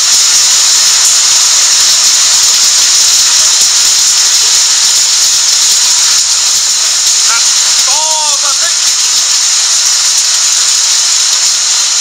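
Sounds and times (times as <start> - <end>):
hail and heavy rain: 0.0 - 12.0.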